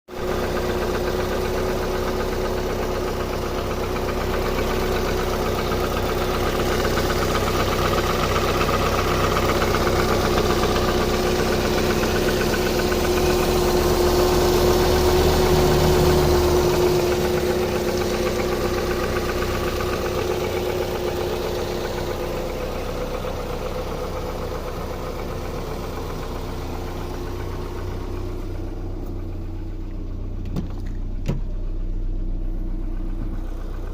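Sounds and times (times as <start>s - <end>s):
car engine knocking: 0.1s - 33.9s.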